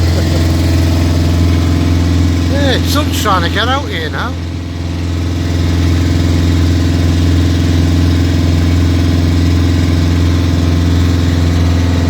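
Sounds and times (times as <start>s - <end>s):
motor boat engine drone: 0.0s - 12.0s.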